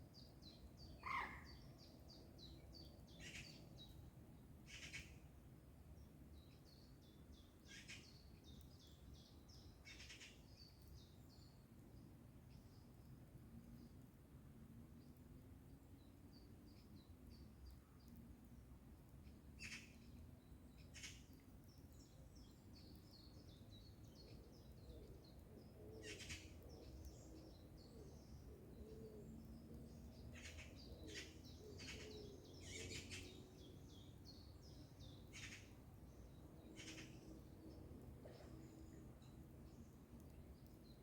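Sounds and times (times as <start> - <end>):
small songbirds twittering: 0.0 - 14.0, 15.0 - 41.0.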